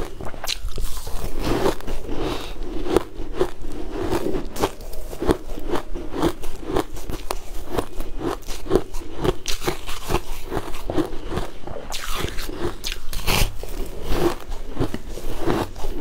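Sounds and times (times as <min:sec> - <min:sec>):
crunching and chewing ice bar: 0:00.0 - 0:16.0.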